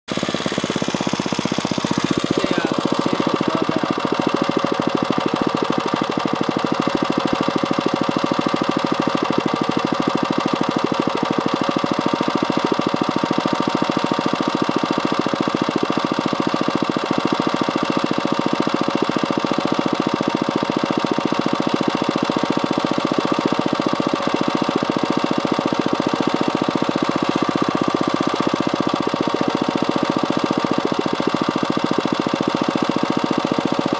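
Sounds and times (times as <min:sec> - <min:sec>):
small gasoline engine running: 0:00.1 - 0:33.9.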